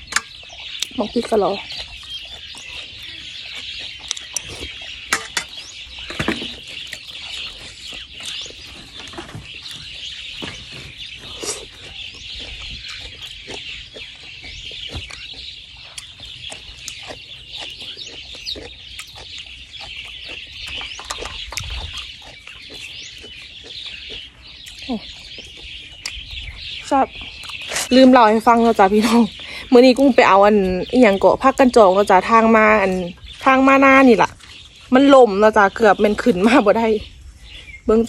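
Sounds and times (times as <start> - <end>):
birds chirping: 0.0 - 38.0
chickens: 0.0 - 38.0.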